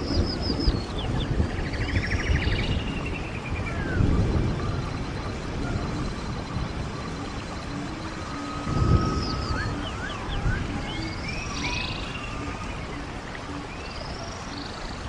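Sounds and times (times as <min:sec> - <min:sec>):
running water rushing: 0:00.0 - 0:15.0
songbirds chirping: 0:00.0 - 0:15.0.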